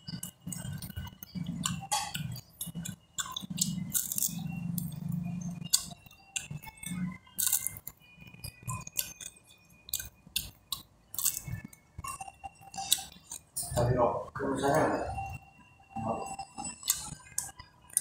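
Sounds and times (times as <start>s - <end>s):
crunchy chewing: 0.0s - 13.6s, 16.6s - 18.0s.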